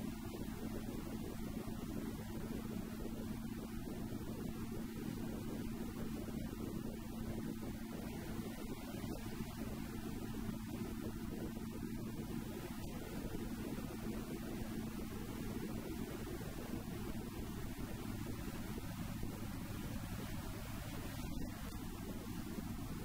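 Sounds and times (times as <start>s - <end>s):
small engine droning: 0.0s - 23.0s.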